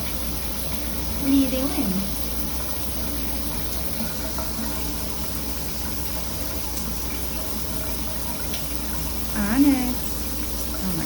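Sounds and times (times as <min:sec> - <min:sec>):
shower water running: 0:00.0 - 0:11.0.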